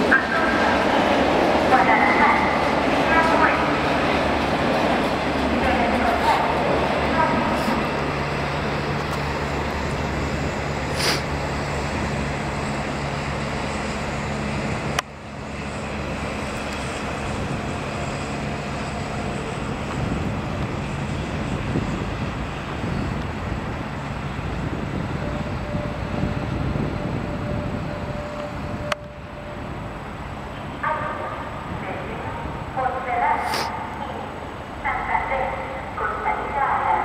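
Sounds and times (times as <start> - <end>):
electric trains rumbling: 0.0 - 37.0.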